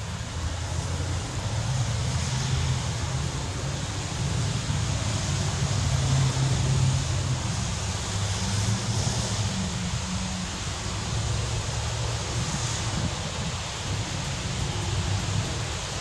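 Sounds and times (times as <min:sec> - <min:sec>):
electric train rumble: 0:00.0 - 0:16.0
wind noise on microphone: 0:00.0 - 0:16.0.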